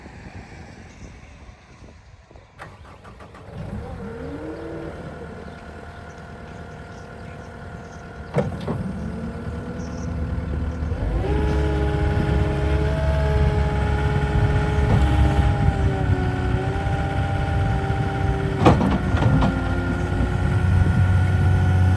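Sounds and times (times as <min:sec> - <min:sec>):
diesel engine starting and idling: 0:02.6 - 0:21.9.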